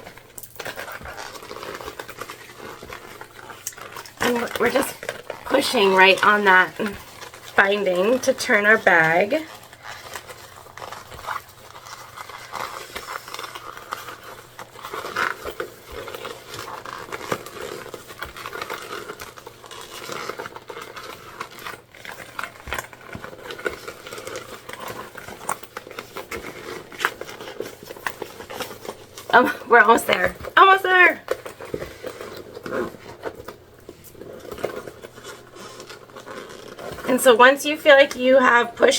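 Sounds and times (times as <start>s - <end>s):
vinyl bag rubbing and crinkling: 0.0s - 38.9s.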